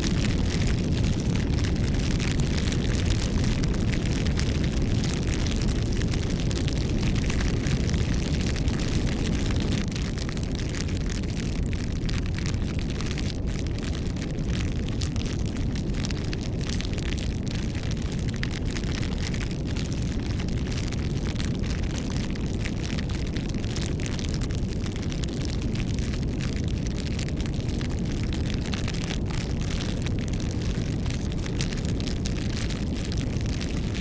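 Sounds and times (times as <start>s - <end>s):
bonfire flames rushing: 0.0s - 34.0s
fire crackles and pops: 0.0s - 34.0s.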